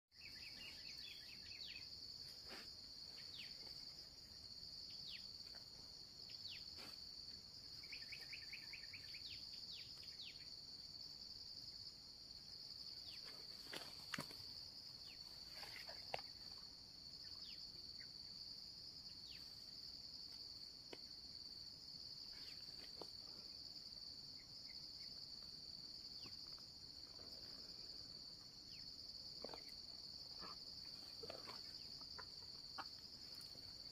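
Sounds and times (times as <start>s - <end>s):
insect chorus drone: 0.1s - 33.9s.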